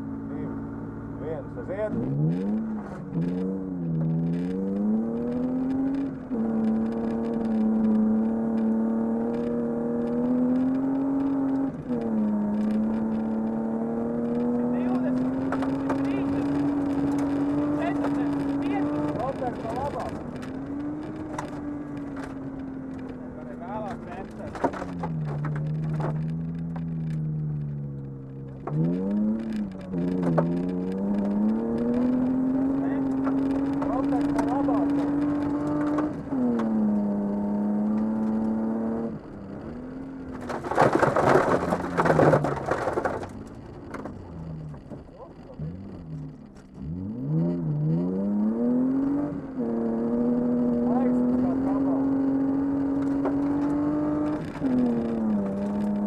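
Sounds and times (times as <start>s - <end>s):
rally car engine revving: 0.0s - 56.0s
gravel ticking against car: 0.3s - 56.0s.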